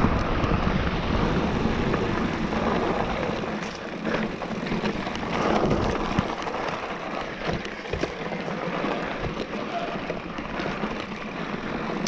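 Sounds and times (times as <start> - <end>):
tyre and wind noise: 0.0 - 12.0
bike knocking over rough ground: 1.9 - 12.0.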